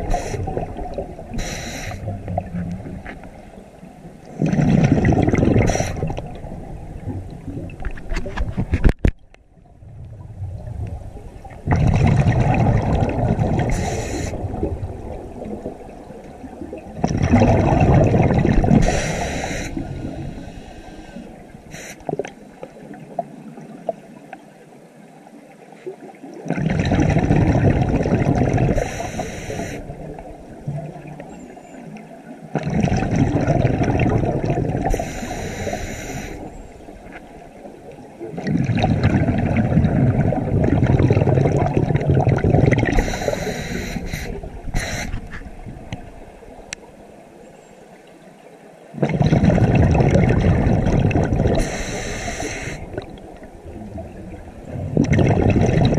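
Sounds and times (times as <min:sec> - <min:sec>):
exhaled bubbles gurgling underwater: 0:00.0 - 0:55.9.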